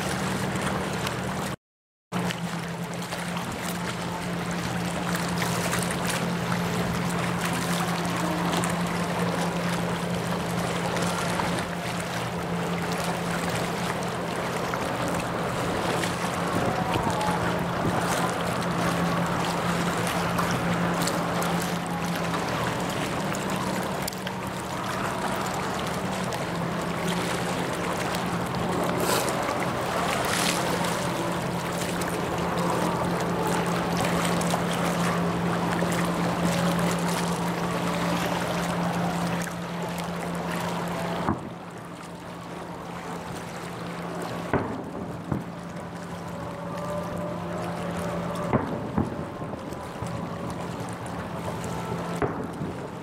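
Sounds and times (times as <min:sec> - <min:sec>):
low engine hum: 0:00.0 - 0:53.0
wind and water noise: 0:00.0 - 0:53.0.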